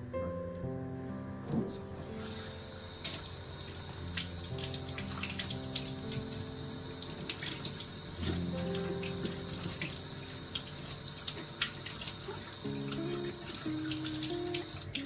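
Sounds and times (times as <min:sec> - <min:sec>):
soft background music: 0:00.0 - 0:15.0
tap water running into sink: 0:02.2 - 0:15.0.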